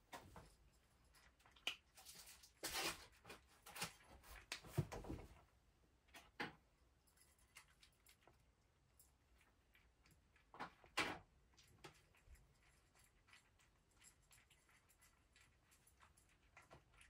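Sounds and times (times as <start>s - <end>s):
cat eating from dish: 0.1s - 4.7s, 6.0s - 17.0s.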